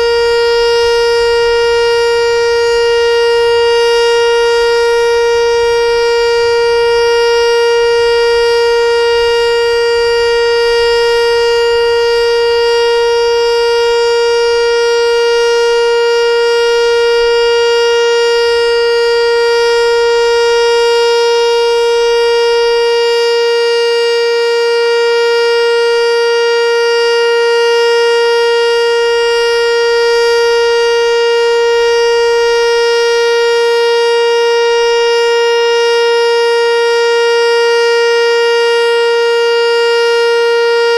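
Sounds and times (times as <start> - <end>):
warning siren steady tone: 0.0 - 40.9.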